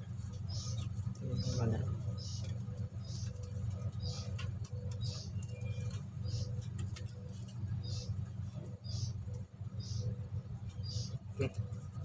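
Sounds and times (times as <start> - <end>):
steady low hum: 0.0 - 12.0
small bird chirping: 0.1 - 12.0.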